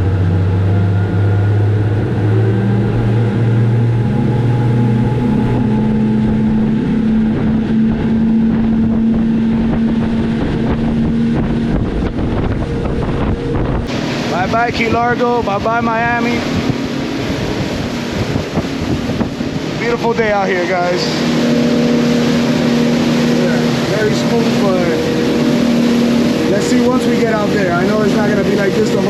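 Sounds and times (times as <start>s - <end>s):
outboard engine throttling up: 0.0s - 29.0s
rushing water: 0.0s - 29.0s
wind: 0.0s - 29.0s.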